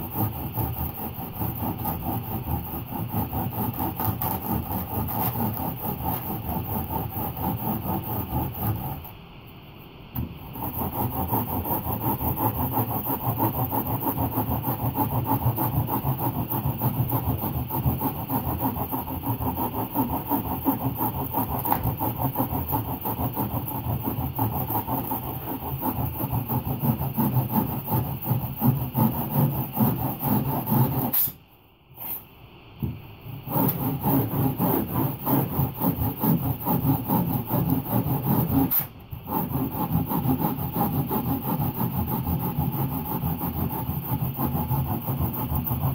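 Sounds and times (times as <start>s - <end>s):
foam being scraped and rasped: 0.0s - 9.2s, 10.2s - 31.4s, 32.0s - 32.3s, 33.3s - 45.9s.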